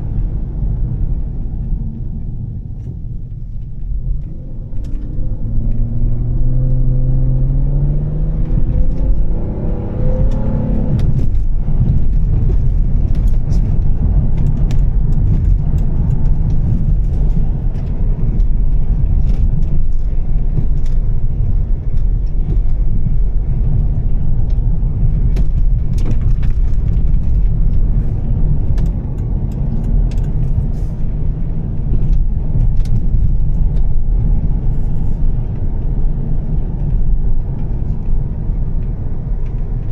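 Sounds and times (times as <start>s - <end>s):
car engine accelerating: 0.0s - 39.9s
engine and road noise rumble: 0.0s - 39.9s.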